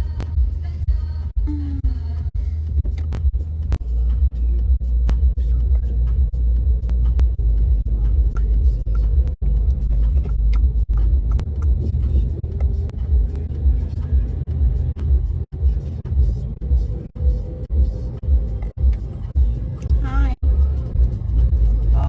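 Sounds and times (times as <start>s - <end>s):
car driving rumble inside cabin: 0.0s - 22.0s.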